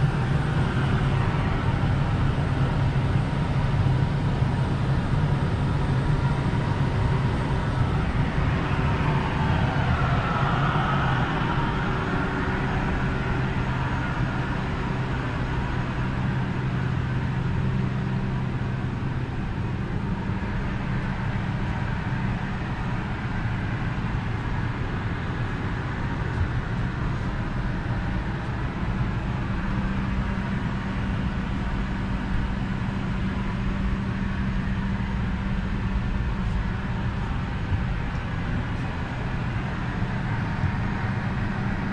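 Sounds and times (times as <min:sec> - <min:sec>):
cabin ventilation droning: 0:00.0 - 0:41.9.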